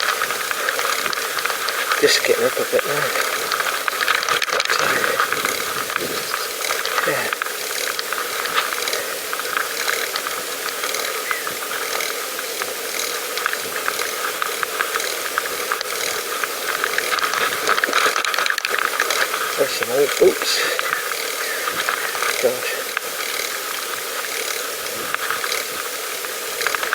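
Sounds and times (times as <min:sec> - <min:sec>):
bicycle freewheel ratcheting: 0:00.0 - 0:26.9.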